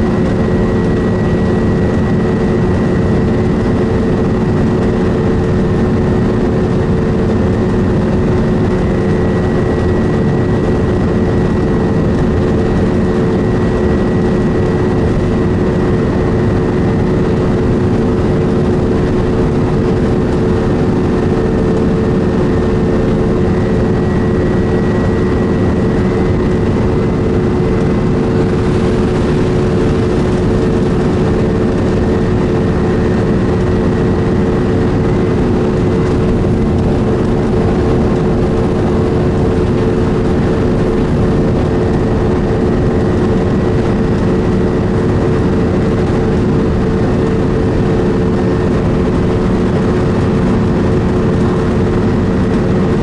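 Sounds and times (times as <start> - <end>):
bus engine drone and whine: 0.0 - 53.0.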